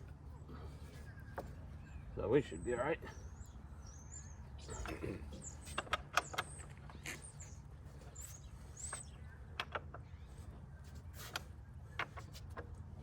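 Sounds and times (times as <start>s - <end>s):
birds chirping: 0.2s - 10.8s.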